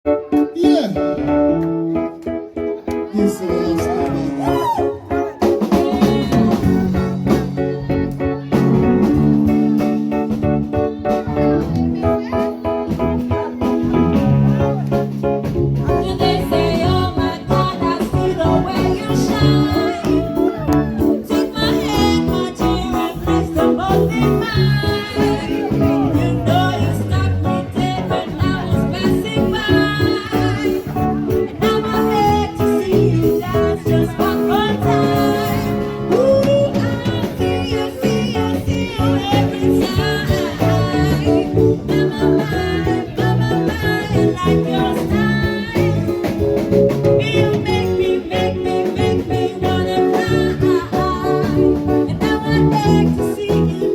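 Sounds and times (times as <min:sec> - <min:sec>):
person singing: 0:00.1 - 0:14.9, 0:15.8 - 0:53.9
bass line: 0:00.1 - 0:53.9
plucked guitar: 0:00.1 - 0:53.9.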